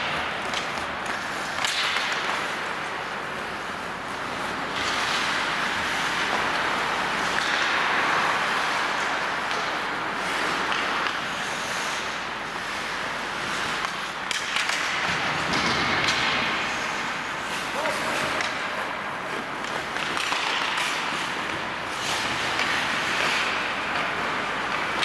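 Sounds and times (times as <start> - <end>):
skates scraping on ice: 0.0 - 25.0
stick and puck clacks: 0.0 - 25.0.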